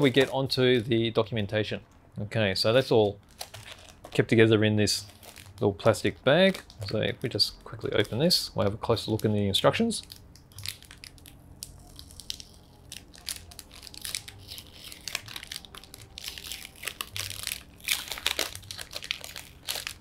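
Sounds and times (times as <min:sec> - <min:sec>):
plastic bag crinkling: 0:00.0 - 0:01.1, 0:02.7 - 0:20.0.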